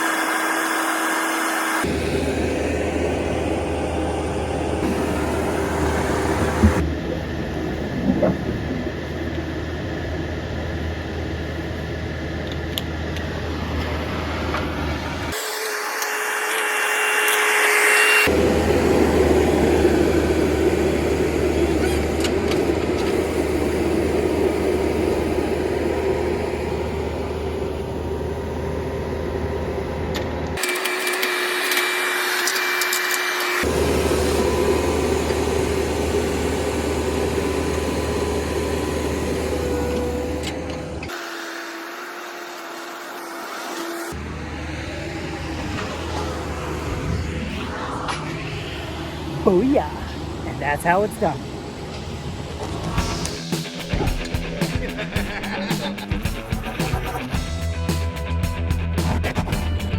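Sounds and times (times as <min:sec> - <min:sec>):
drilling engine humming: 0:00.0 - 0:59.0.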